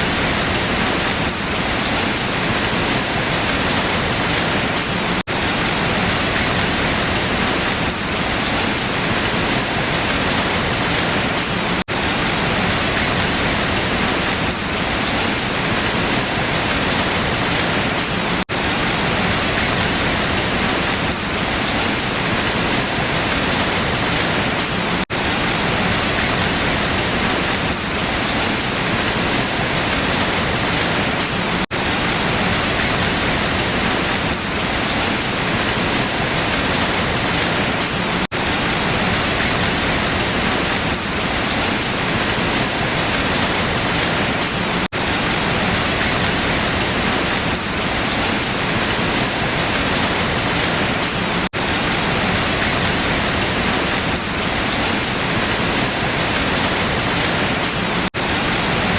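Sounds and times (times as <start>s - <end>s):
rain falling on leaves: 0.0s - 58.9s.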